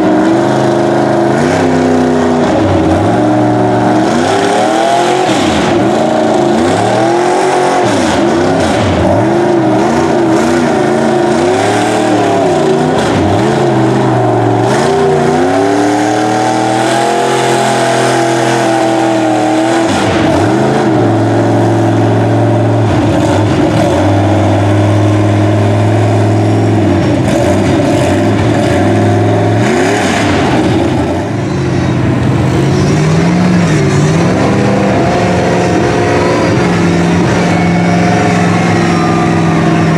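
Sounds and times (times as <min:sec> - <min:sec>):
tires churning through muddy water: 0:00.0 - 0:31.2, 0:32.2 - 0:39.9
truck engine revving: 0:00.0 - 0:39.9.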